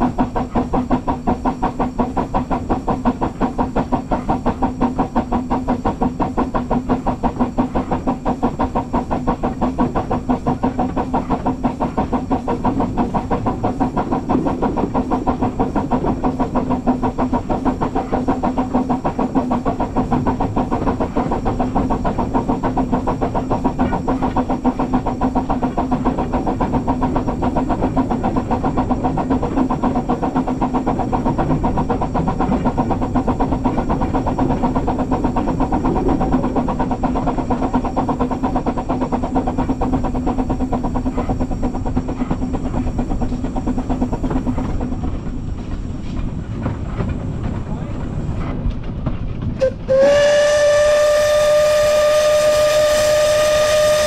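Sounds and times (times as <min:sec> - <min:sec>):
steam hiss: 0:00.0 - 0:48.4, 0:49.6 - 0:54.0
steam locomotive beat: 0:00.0 - 0:54.0.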